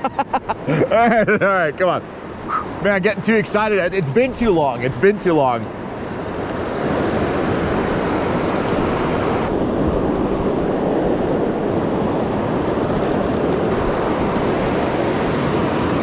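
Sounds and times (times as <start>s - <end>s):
river rushing through rapids: 2.4s - 16.0s.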